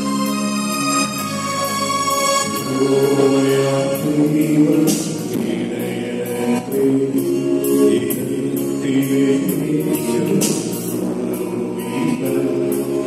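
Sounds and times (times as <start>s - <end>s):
keyboard accompaniment: 0.0s - 13.0s.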